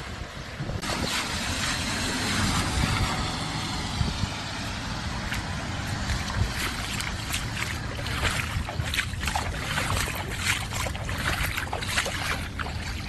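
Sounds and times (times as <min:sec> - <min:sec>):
car engine rumble: 0:00.6 - 0:13.0.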